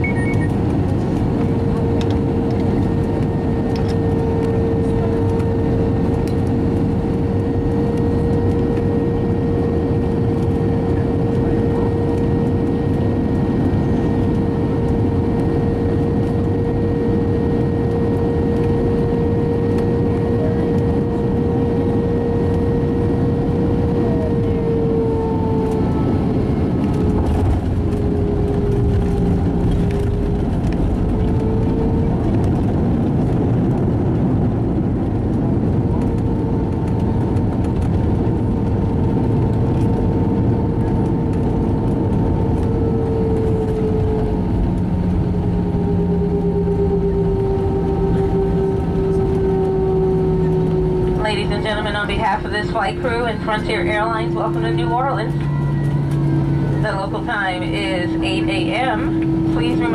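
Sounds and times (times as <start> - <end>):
engines and airflow rushing: 0.0 - 59.9
jet engine whine: 0.0 - 59.9.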